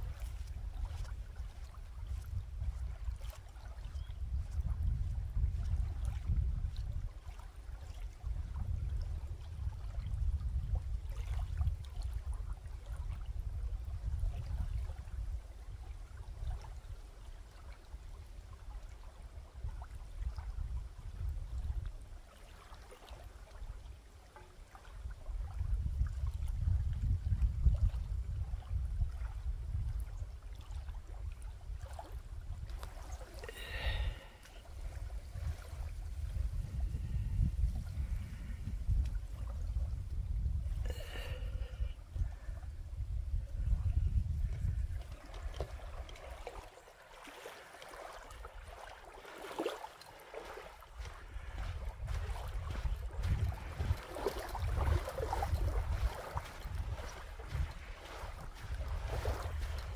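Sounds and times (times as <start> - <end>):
wind rumble on microphone: 0.0 - 46.8, 50.4 - 59.9
small waves lapping on shore: 0.0 - 59.9.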